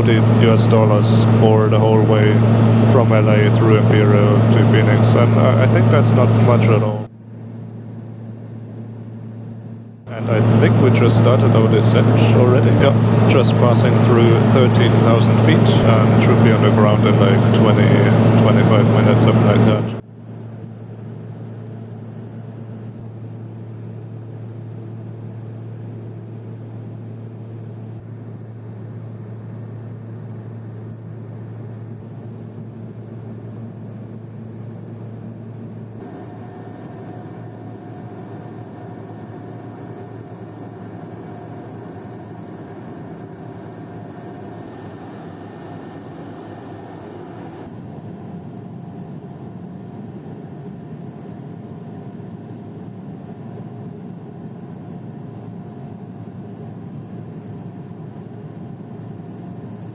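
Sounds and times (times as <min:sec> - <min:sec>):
turboprop cabin drone: 0:00.0 - 0:59.9.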